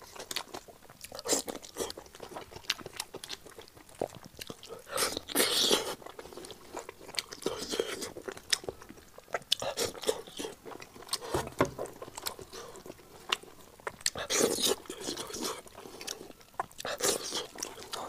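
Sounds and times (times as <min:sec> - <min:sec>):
chewing and biting: 0:00.0 - 0:18.0.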